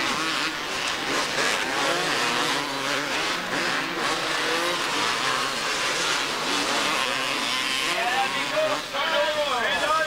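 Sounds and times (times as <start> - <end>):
two-stroke motocross bikes revving: 0.0 - 10.0.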